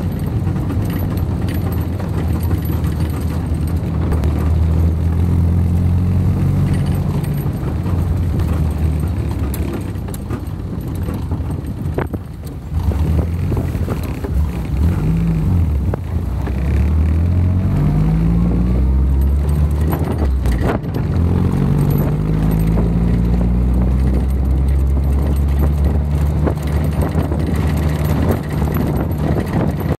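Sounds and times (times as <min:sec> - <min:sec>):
jeep engine accelerating: 0:00.0 - 0:30.0.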